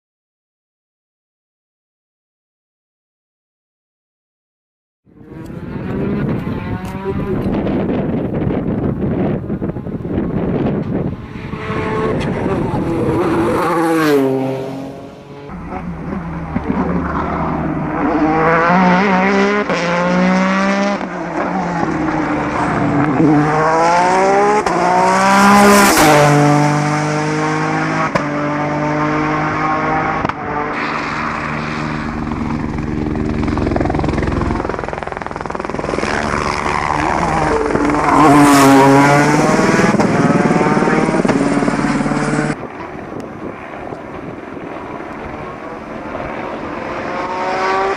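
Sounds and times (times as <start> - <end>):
race car accelerating hard: 5.1 - 42.7, 43.9 - 47.9.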